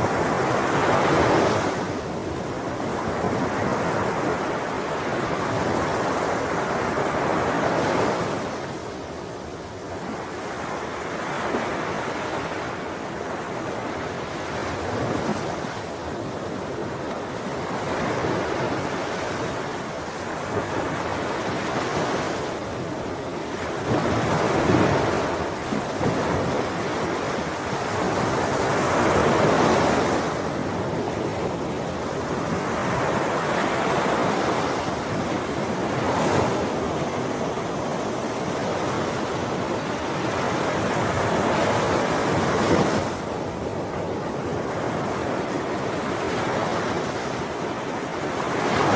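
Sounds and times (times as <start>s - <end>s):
ocean waves breaking on shore: 0.0s - 48.9s.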